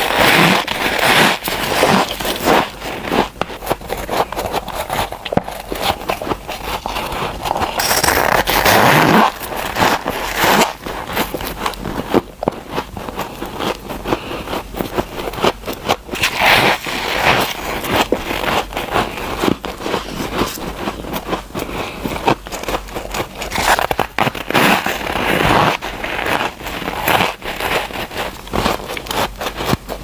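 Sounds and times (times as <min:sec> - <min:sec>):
frost snowball crunching when chewed: 0:00.0 - 0:30.0.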